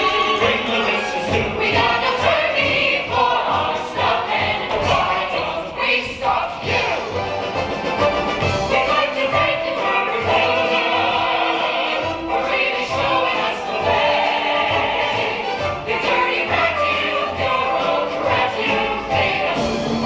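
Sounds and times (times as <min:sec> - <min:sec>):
ensemble singing show tune: 0:00.0 - 0:20.0.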